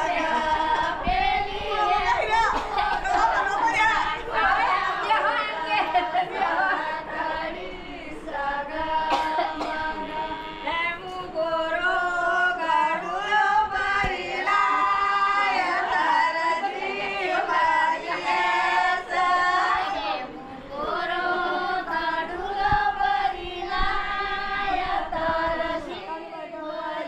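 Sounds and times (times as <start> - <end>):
women singing without instruments: 0.0 - 27.0.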